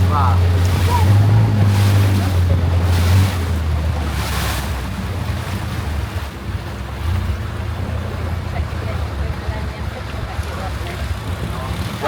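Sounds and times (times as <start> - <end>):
boat engine droning: 0.0 - 12.0
rushing water: 0.0 - 12.0.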